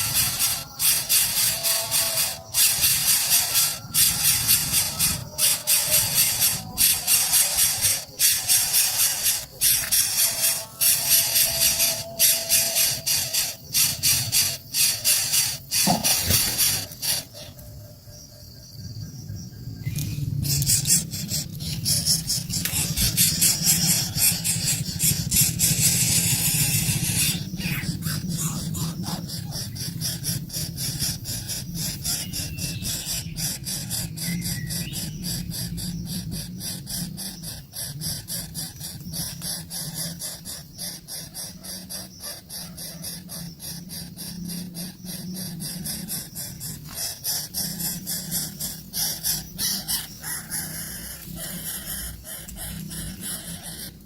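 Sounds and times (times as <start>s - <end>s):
baby birds squealing: 0.0s - 17.7s, 19.9s - 54.0s.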